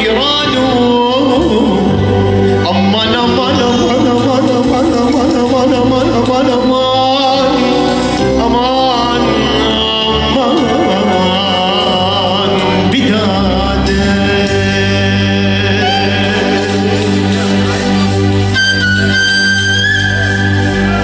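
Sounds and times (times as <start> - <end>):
electronic keyboards: 0.0 - 21.0
low bass line: 0.0 - 21.0
man singing: 0.0 - 21.0.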